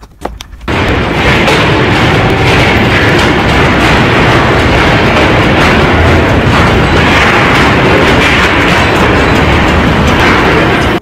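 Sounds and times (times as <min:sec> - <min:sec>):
building rumbling in earthquake: 0:00.0 - 0:11.0.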